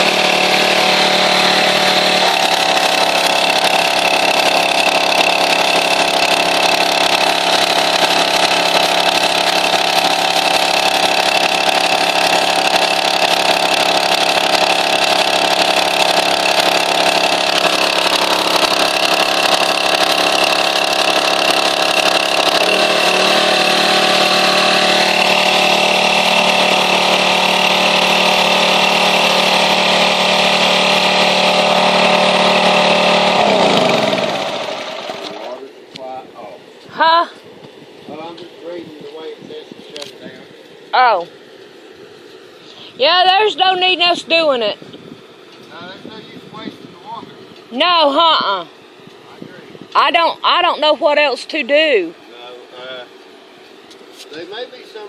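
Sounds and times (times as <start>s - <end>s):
pressure washer engine running: 0.0s - 37.3s, 38.1s - 55.0s.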